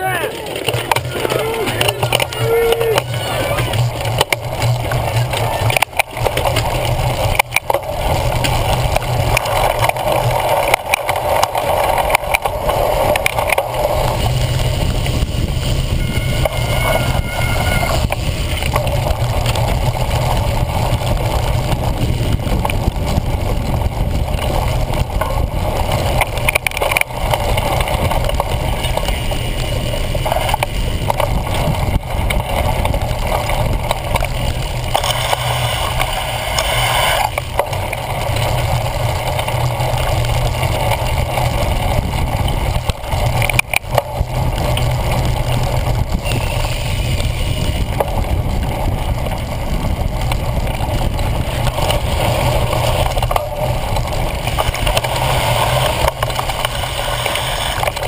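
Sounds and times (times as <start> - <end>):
wind rush and vibration rumble: 0.0 - 58.0.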